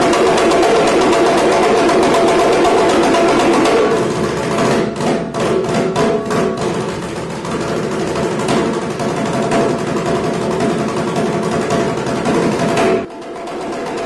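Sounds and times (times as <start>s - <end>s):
hand drum roll: 0.0s - 14.0s.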